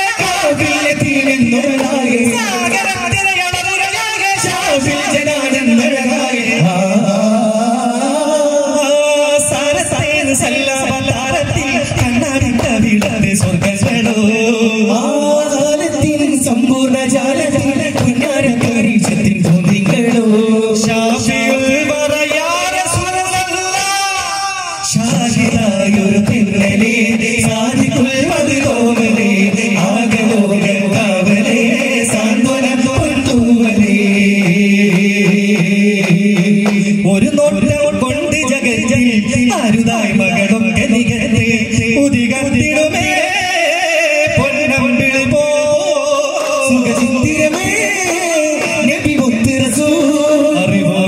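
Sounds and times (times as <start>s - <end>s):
frame drums in rhythm: 0.0s - 51.0s
voices singing a chant: 0.0s - 51.0s.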